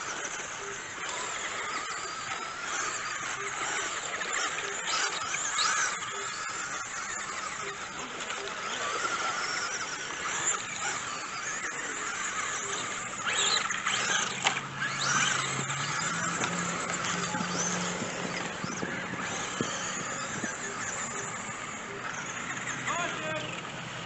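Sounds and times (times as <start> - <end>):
rc car motors whining: 0.0 - 24.0.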